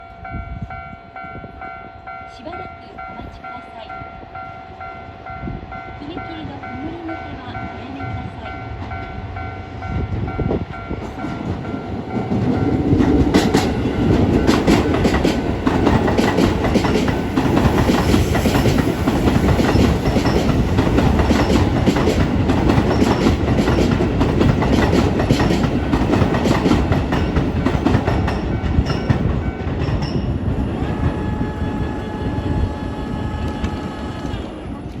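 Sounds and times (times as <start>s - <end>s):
train wheels rumbling and clacking: 0.0s - 35.0s.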